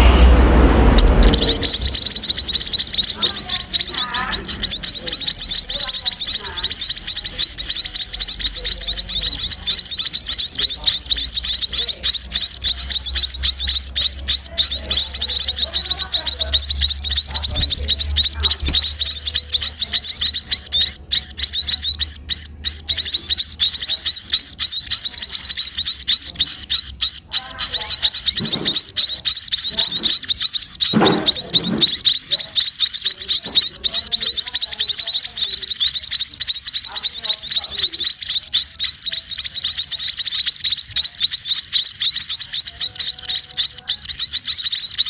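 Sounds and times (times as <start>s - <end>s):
chicks begging chirps: 0.0s - 45.0s.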